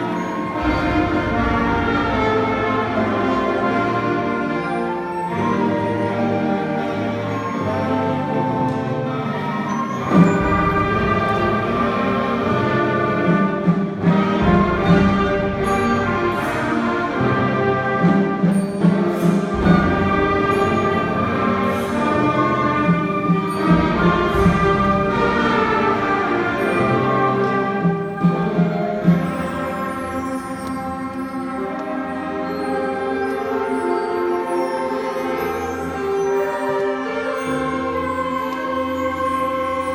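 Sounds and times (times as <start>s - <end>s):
orchestral music: 0.0s - 39.9s.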